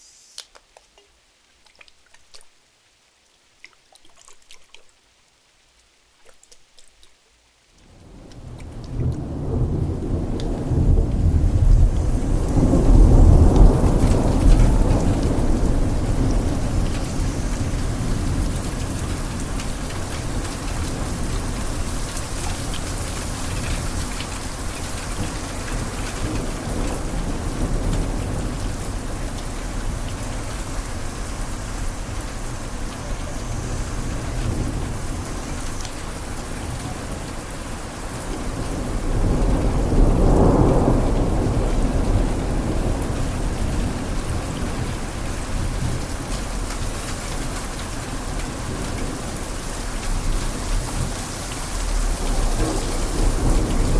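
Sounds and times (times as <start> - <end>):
rain on a window pane: 0.4 - 53.9
rolling thunder: 8.0 - 53.9.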